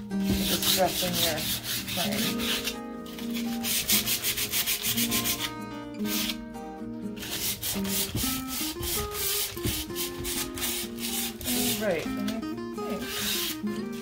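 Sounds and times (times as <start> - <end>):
sandpaper scratching on wood: 0.2 - 6.4, 7.2 - 12.3, 12.9 - 14.0.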